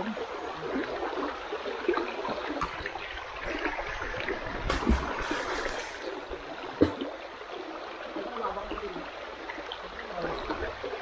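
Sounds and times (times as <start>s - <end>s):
water splashing and gurgling: 0.0s - 11.0s.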